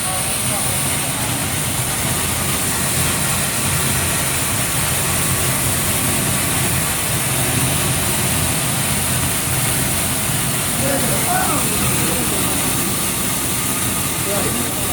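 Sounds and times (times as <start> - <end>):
sorting machine hissing and humming: 0.0 - 14.9.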